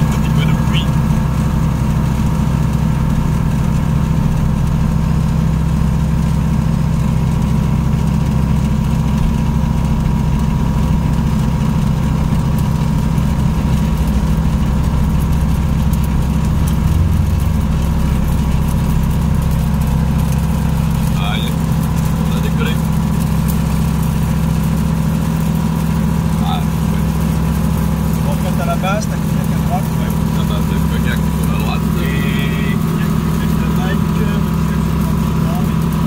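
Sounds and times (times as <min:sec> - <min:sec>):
light aircraft engine drone: 0:00.0 - 0:36.0.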